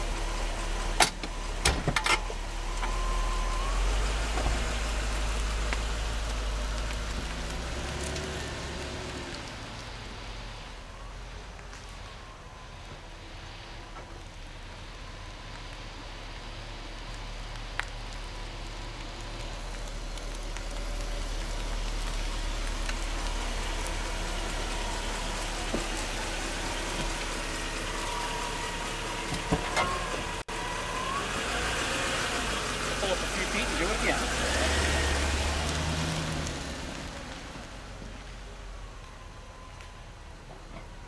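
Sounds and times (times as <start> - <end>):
car rolling slowly: 0.0 - 41.0.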